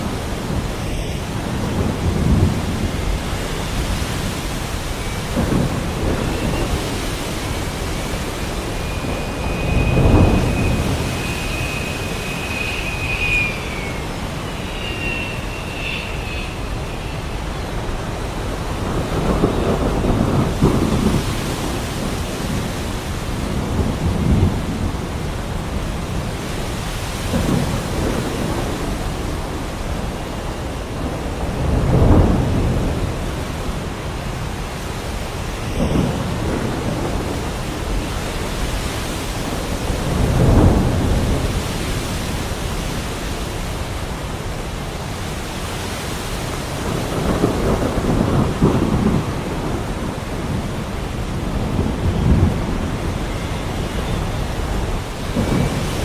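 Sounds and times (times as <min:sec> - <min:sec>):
heavy rain falling: 0:00.0 - 0:56.0
thunder rumbling: 0:00.0 - 0:56.0.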